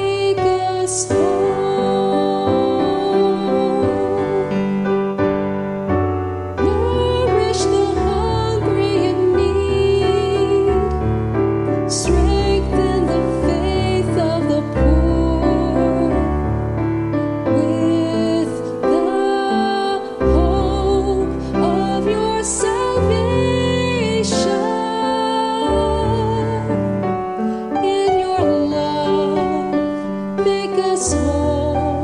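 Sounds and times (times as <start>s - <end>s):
woman singing a hymn: 0.0s - 4.7s, 6.6s - 11.0s, 11.9s - 16.4s, 17.4s - 26.8s, 27.7s - 32.0s
piano accompaniment: 0.0s - 32.0s.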